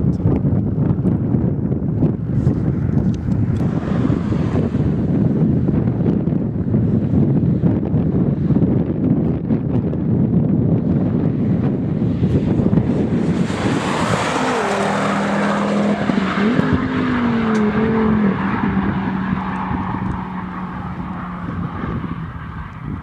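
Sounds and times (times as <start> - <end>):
car engine droning: 0.0 - 23.0
wind on microphone: 0.0 - 23.0.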